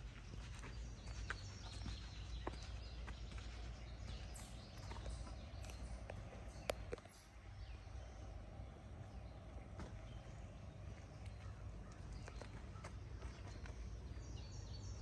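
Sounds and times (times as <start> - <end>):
footsteps on dirt path: 0.0 - 7.2, 9.6 - 14.9
low steady rumble: 0.0 - 15.0.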